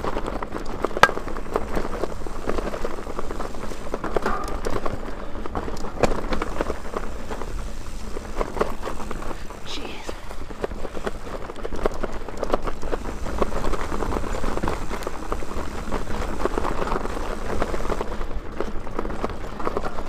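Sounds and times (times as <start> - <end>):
bike rattling: 0.0 - 20.0
bike tyres rolling over dirt: 0.0 - 20.0.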